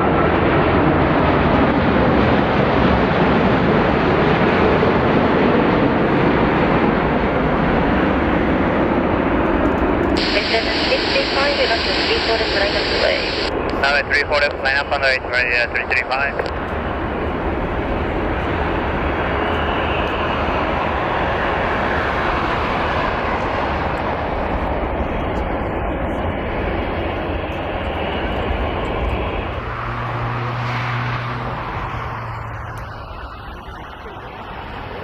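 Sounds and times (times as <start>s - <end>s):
jet airliner engines roaring: 0.0s - 35.0s.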